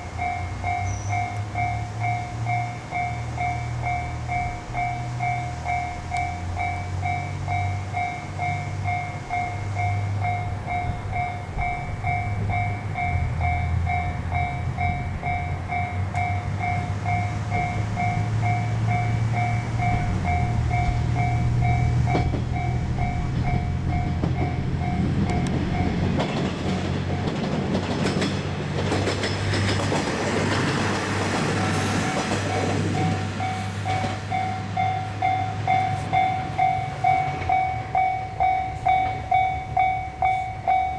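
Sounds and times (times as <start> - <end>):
level crossing bell ringing: 0.0 - 26.1, 32.1 - 40.9
diesel train engine drone: 0.0 - 40.9
train wheels clattering on rails: 0.0 - 40.9.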